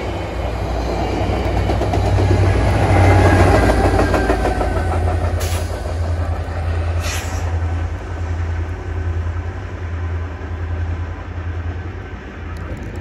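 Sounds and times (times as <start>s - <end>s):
wheel and rail hiss: 0.0s - 11.1s
diesel locomotive engine drone: 0.0s - 13.0s.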